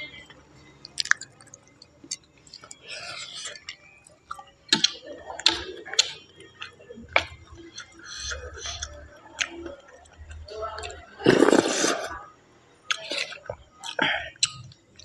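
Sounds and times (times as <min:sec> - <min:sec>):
wet mouth chewing: 0:00.8 - 0:12.1, 0:12.9 - 0:15.0.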